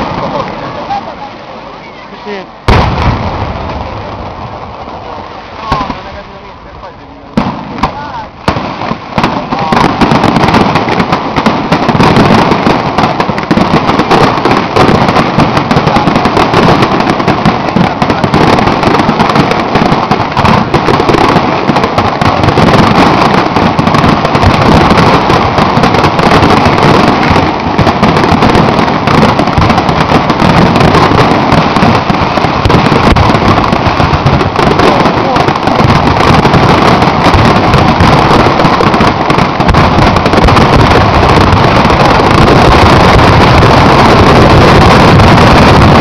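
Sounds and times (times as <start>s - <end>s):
firework shells bursting: 0.0s - 46.0s.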